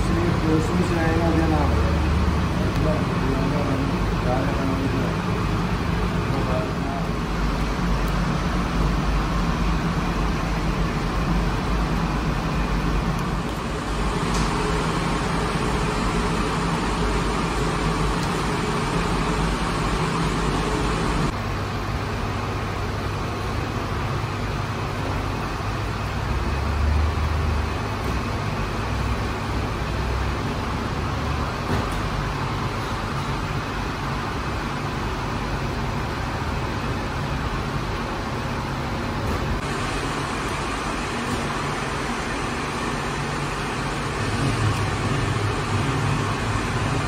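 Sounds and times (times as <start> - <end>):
bakery machinery drone: 0.0 - 47.0.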